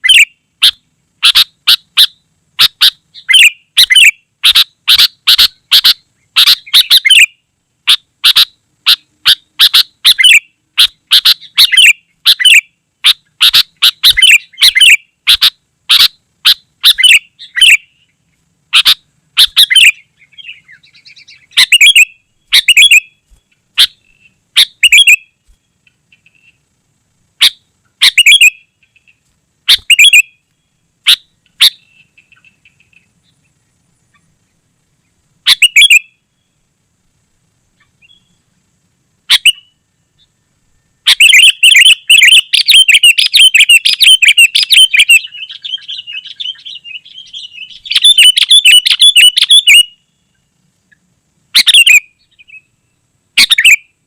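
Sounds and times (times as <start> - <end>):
bird chirping loudly: 0.0 - 25.4, 27.4 - 30.4, 31.0 - 33.5, 35.4 - 36.5, 39.3 - 40.3, 41.0 - 50.4, 51.6 - 52.8, 53.4 - 53.9.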